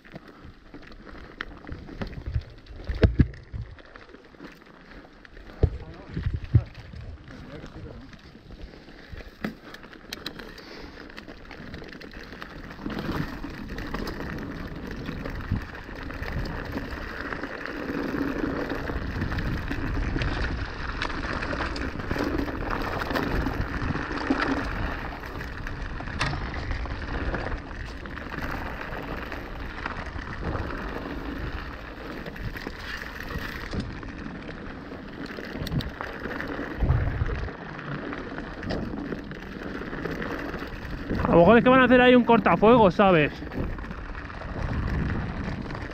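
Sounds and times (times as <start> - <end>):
bike knocking and rattling: 0.0 - 45.9
bike tyres crunching over stones: 0.0 - 45.9.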